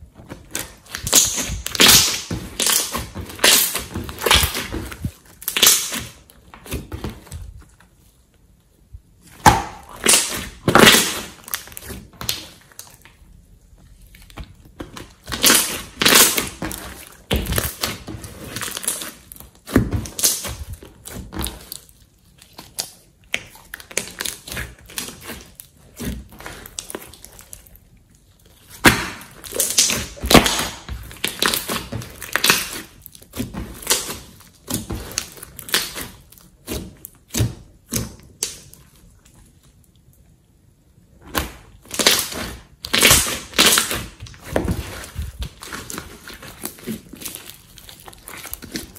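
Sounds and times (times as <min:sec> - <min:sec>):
slime squelching and popping: 0:00.0 - 0:07.7, 0:09.1 - 0:40.2, 0:41.2 - 0:48.9.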